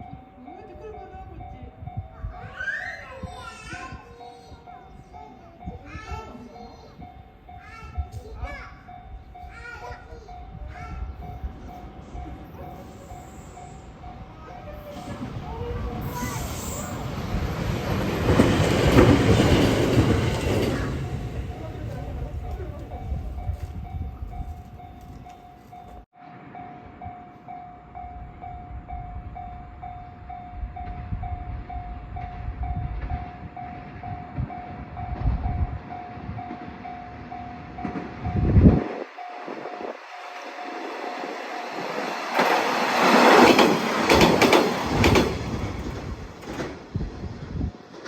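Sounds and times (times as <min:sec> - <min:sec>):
level crossing warning bell ringing: 0:00.0 - 0:02.3, 0:04.1 - 0:16.1, 0:17.0 - 0:46.4
diesel railcar passing: 0:03.4 - 0:48.0.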